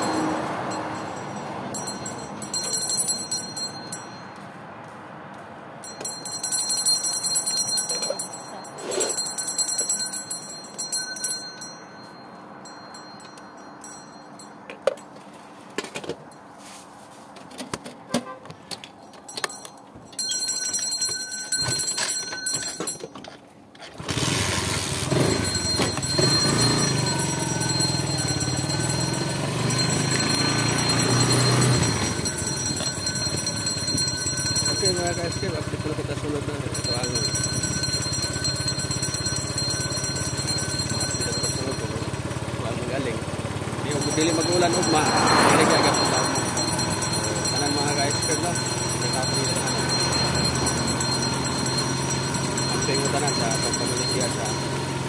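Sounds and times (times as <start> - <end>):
hand bell ringing: 0.0 - 4.5, 5.8 - 15.2, 19.2 - 23.2, 25.1 - 42.5, 43.7 - 55.0.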